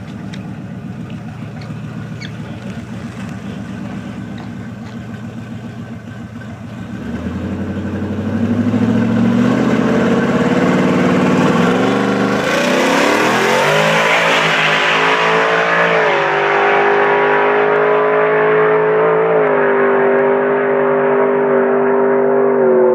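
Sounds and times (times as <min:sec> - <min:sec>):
truck engine accelerating hard: 0:00.0 - 0:22.9.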